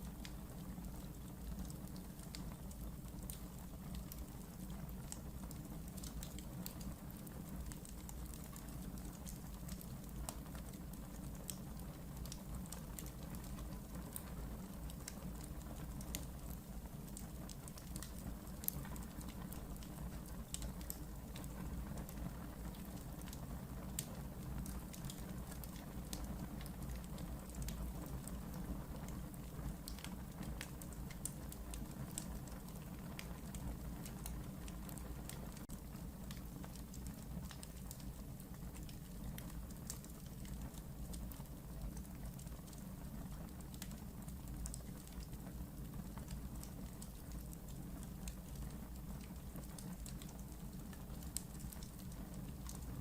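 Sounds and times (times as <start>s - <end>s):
fire crackling and popping: 0.0s - 53.0s
fire flames rumbling: 9.5s - 53.0s.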